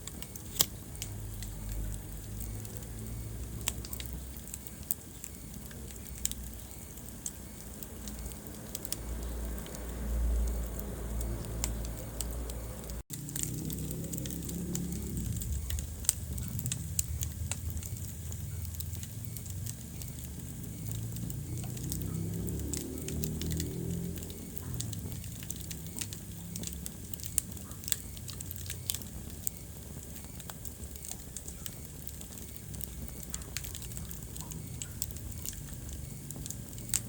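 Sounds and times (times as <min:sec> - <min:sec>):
sharp pops of fire: 0:00.0 - 0:37.0
wood fire crackling: 0:00.0 - 0:37.0.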